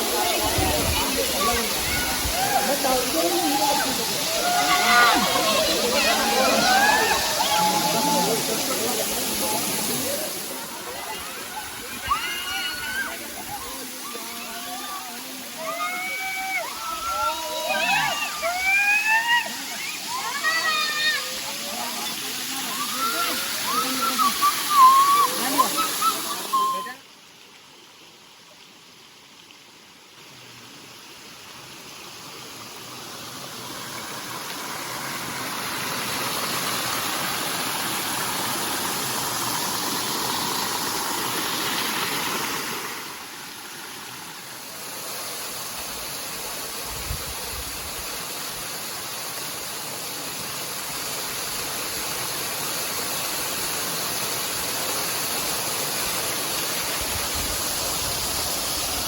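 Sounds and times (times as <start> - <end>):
waterfall rushing: 0.0 - 27.2, 30.4 - 59.0.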